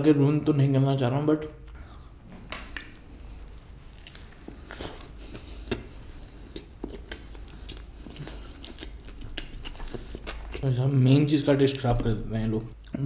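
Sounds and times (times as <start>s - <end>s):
man chewing food: 1.6s - 13.0s.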